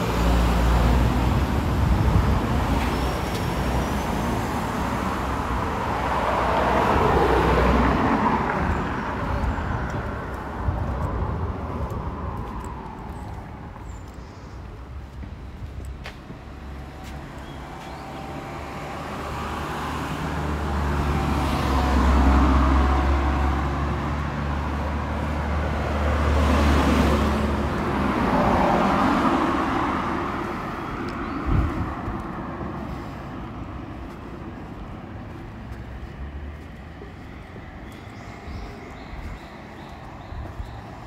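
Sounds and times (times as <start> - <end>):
vehicles passing close by: 0.0 - 41.0.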